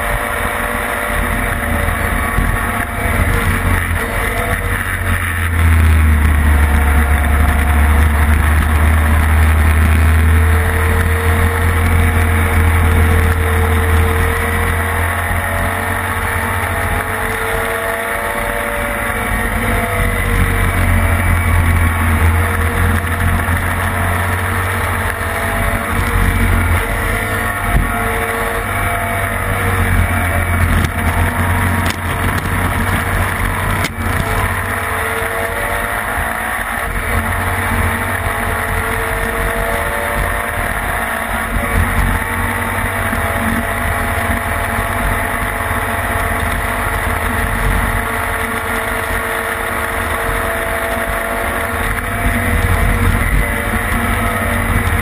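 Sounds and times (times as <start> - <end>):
racing engine revving through gears: 0.0 - 55.0.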